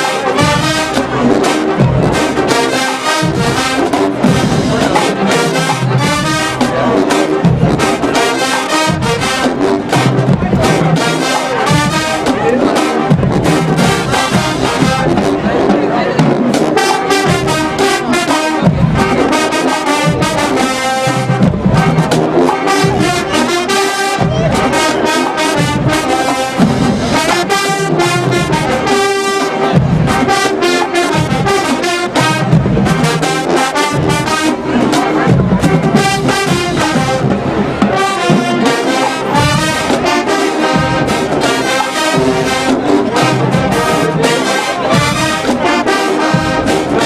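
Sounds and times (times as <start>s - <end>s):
brass playing tune: 0.0s - 47.0s
drumline beat: 0.0s - 47.0s.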